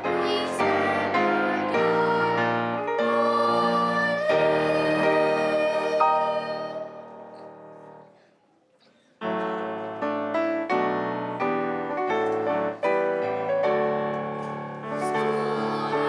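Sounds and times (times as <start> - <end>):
piano chords: 0.0 - 8.2, 9.2 - 16.0.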